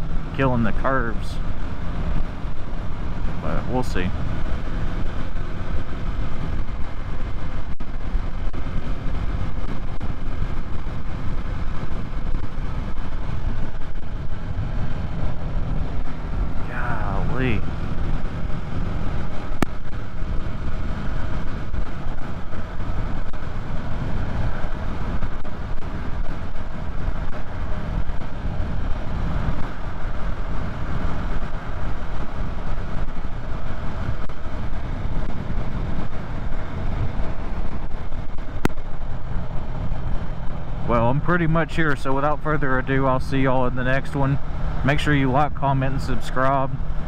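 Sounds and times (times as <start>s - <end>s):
motorcycle engine cruising: 0.0s - 47.0s
wind rushing over microphone: 0.0s - 47.0s.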